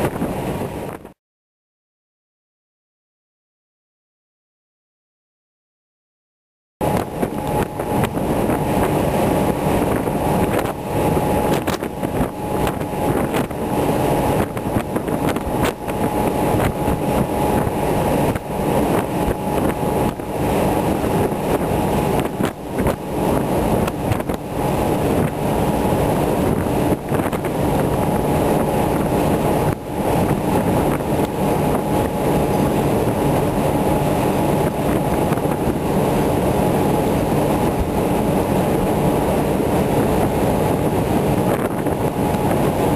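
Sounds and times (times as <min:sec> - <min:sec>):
wind buffeting microphone: 0:00.0 - 0:01.2, 0:06.8 - 0:42.9.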